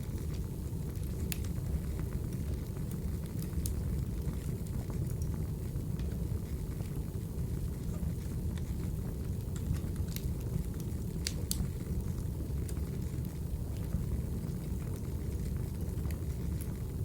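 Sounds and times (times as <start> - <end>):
crackling wood fire: 0.0 - 17.0.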